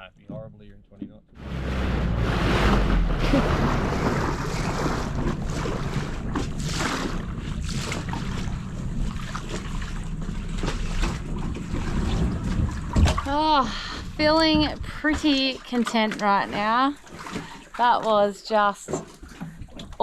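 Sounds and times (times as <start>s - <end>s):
outboard motor running: 1.3s - 20.0s
water splashing against hull: 1.3s - 20.0s
wind buffeting microphone: 1.4s - 17.5s.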